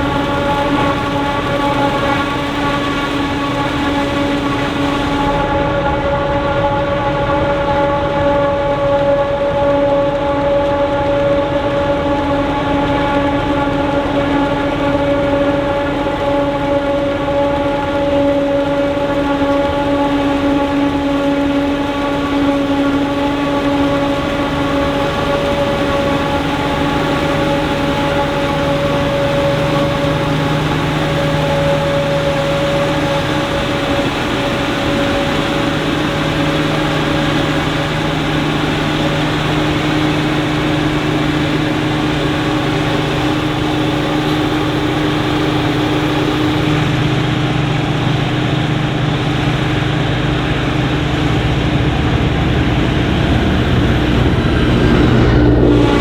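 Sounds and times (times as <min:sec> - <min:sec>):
forage harvester droning whine: 0:00.0 - 0:56.0.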